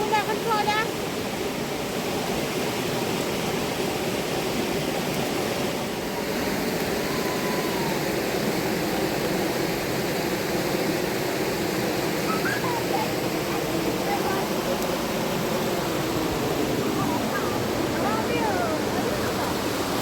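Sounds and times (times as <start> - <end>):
rushing river water: 0.0 - 20.0.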